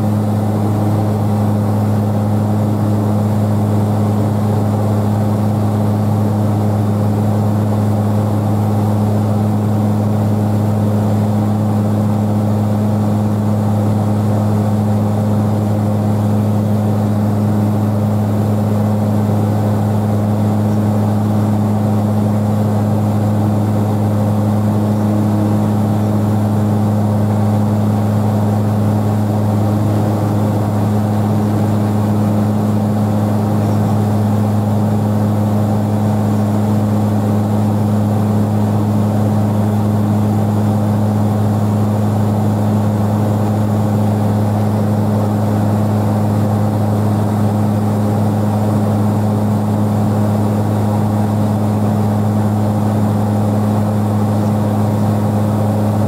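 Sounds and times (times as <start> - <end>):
airliner engine drone: 0.0 - 56.0.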